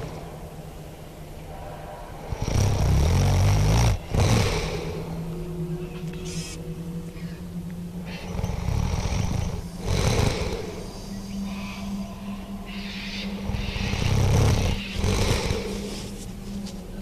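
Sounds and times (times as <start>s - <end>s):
rough growling noise: 0.0s - 17.0s
steady low hum: 0.0s - 17.0s.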